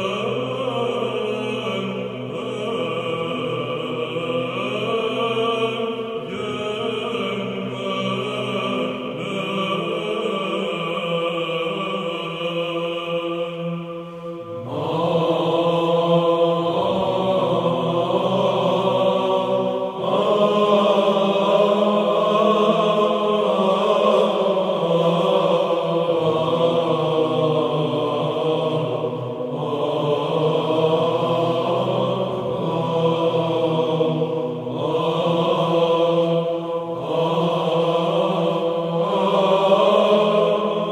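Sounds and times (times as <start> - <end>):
slow vocal chanting: 0.0 - 40.9.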